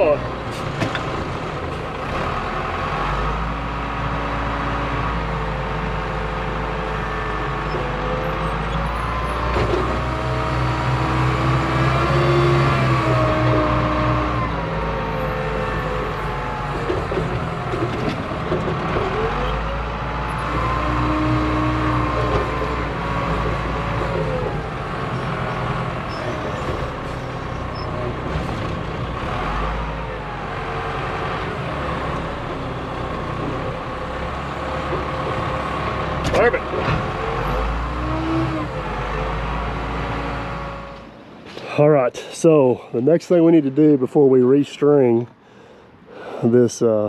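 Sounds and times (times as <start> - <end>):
heavy diesel machinery running: 0.0 - 44.3.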